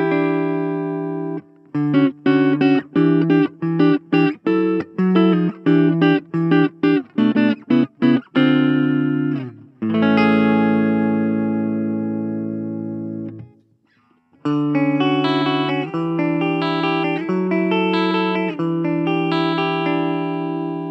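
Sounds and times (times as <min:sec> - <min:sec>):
clean electric guitar chords: 0:00.0 - 0:13.6, 0:14.4 - 0:20.9.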